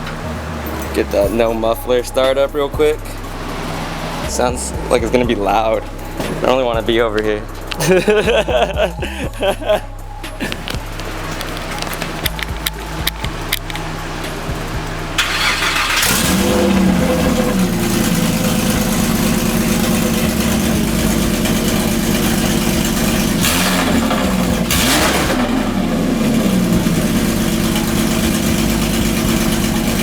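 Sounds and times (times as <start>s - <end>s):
engine revving: 0.0s - 8.9s, 10.1s - 30.0s
car engine starting and idling: 0.0s - 30.0s.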